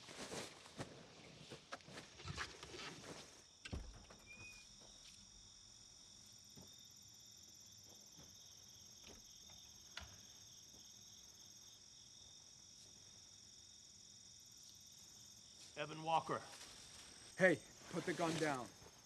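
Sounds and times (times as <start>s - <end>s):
insects chirring: 3.0s - 19.0s.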